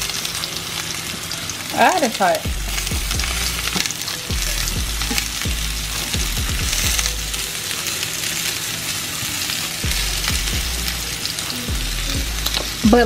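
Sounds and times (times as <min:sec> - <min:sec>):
sausages sizzling in oil: 0:00.0 - 0:13.0.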